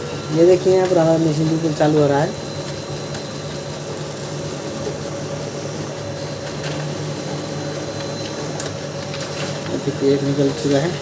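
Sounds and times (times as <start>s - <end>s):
printer motor and gear hum: 0.0s - 11.0s.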